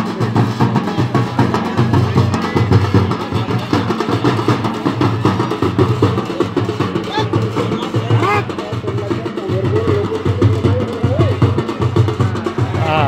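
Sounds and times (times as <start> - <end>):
fast rhythmic drumming: 0.0 - 13.0.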